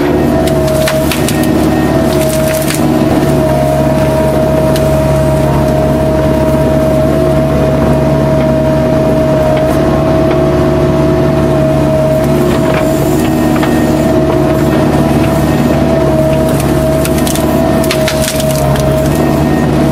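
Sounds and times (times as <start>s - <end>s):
excavator diesel engine running: 0.0s - 19.9s
high whine: 0.0s - 19.9s.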